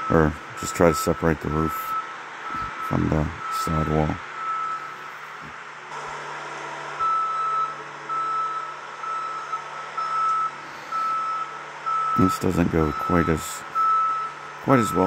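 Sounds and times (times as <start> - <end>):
backup alarm beeping: 0.0 - 5.0, 7.0 - 15.0
low engine hum: 0.0 - 15.0.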